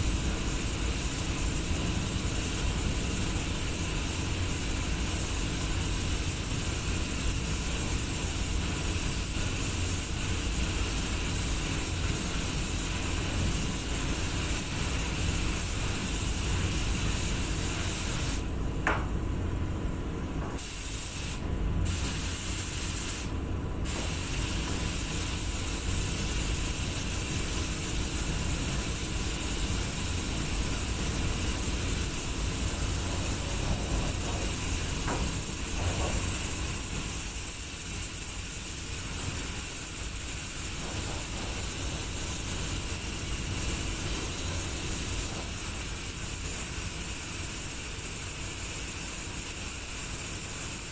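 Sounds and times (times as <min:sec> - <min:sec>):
paint spray gun hissing: 0:00.0 - 0:18.5, 0:20.6 - 0:50.9.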